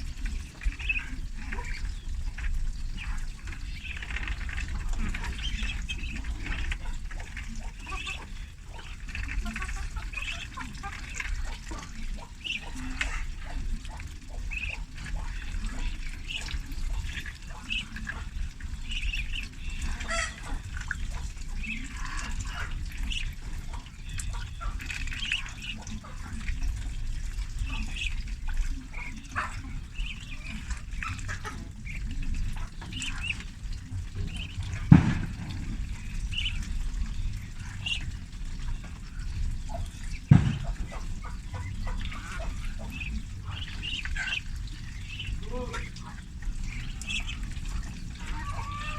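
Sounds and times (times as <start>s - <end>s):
ducklings peeping: 0.0s - 48.9s.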